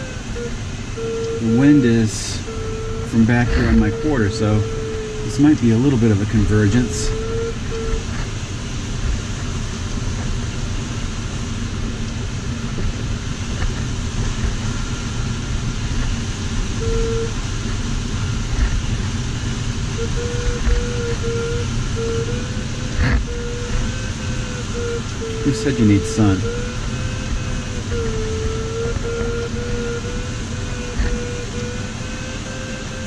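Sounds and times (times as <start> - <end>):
variometer beeping: 0.0 - 8.2, 14.6 - 33.0
airflow rushing over canopy: 0.0 - 33.0.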